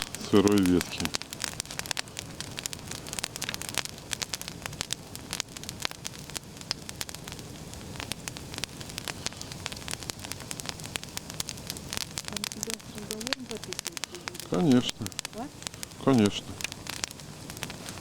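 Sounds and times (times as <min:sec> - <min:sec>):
campfire crackling: 0:00.0 - 0:18.0
hissing steam from wood: 0:00.0 - 0:18.0
sharp pops from burning wood: 0:00.0 - 0:18.0.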